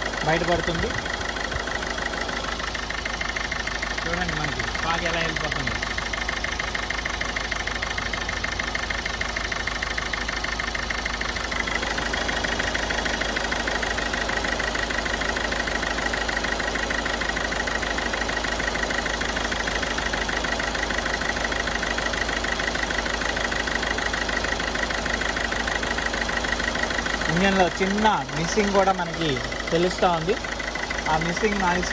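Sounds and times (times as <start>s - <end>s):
car engine idling with misfire: 0.0s - 31.9s.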